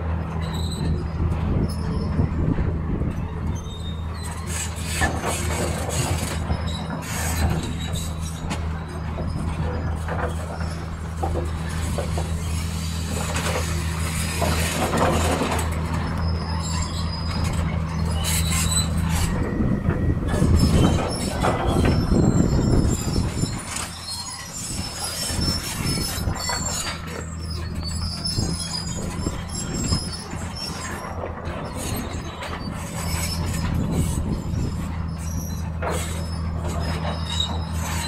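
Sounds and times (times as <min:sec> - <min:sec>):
bulldozer diesel engine: 0:00.0 - 0:38.0
crawler tracks squealing and clanking: 0:00.0 - 0:38.0.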